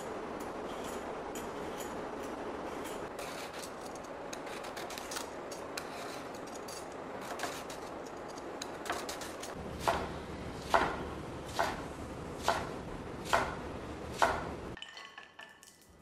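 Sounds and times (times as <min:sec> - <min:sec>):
steady background hiss: 0:00.0 - 0:14.8.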